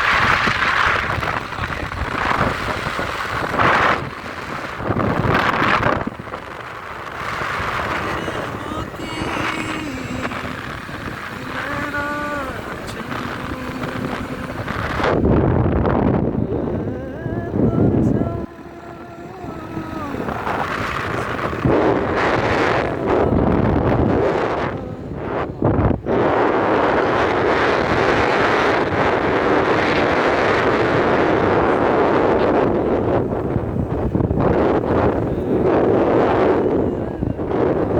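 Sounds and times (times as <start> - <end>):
vehicle road noise: 0.0 - 37.9
wind buffeting microphone: 0.0 - 37.9.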